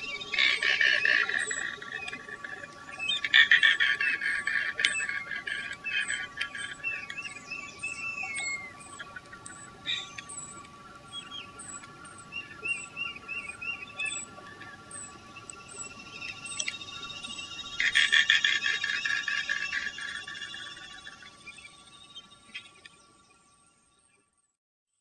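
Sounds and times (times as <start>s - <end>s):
birds chirping: 0.0s - 24.3s
faint steady tone: 0.0s - 24.6s.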